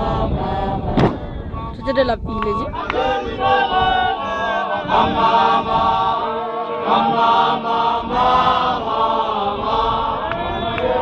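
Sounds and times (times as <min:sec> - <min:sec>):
men chanting in unison: 0:00.0 - 0:01.8, 0:02.6 - 0:11.0.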